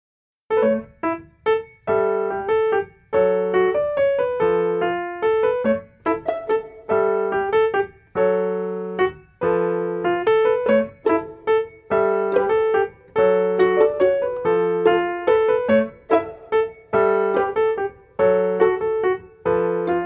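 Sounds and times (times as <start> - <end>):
piano music: 0.5 - 20.0.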